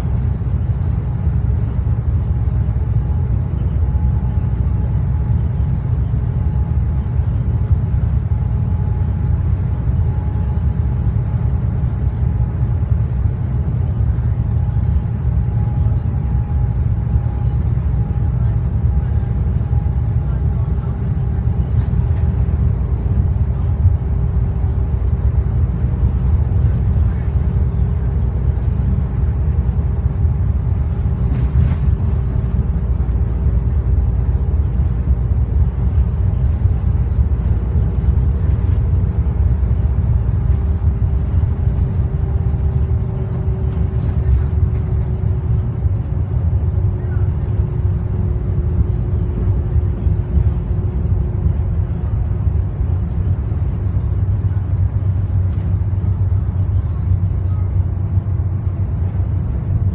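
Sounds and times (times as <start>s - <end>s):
bus engine and road rumble: 0.0s - 59.9s
steady whine: 0.0s - 59.9s.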